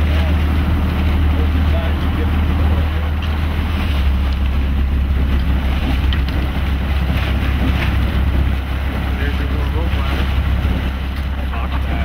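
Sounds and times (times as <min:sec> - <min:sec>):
boat engine droning: 0:00.0 - 0:12.0
water washing around boat: 0:00.0 - 0:12.0
wind buffeting microphone: 0:00.0 - 0:12.0.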